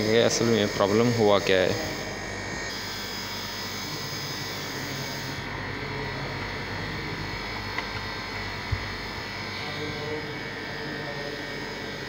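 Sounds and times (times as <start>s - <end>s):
chiller compressor hum: 0.0s - 12.0s.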